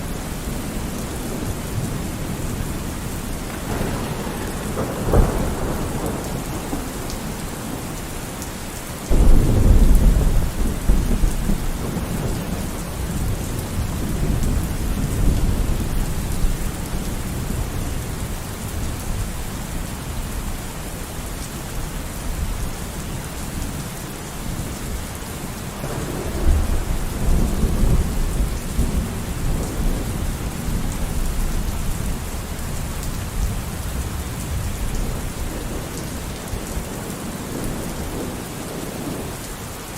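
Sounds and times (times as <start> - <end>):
thunder rumbling: 0.0 - 20.6, 24.5 - 39.5
steady rain: 0.0 - 39.9.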